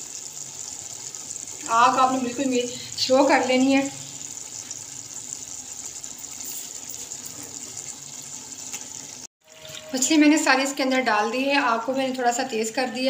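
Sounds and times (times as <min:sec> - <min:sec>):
curry sizzling in a pot: 0:00.0 - 0:13.0.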